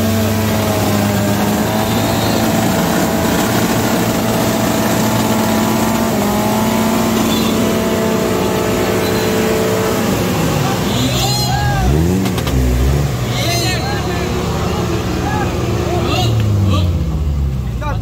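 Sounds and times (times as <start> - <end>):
off-road engine at high revs: 0.0 - 18.0.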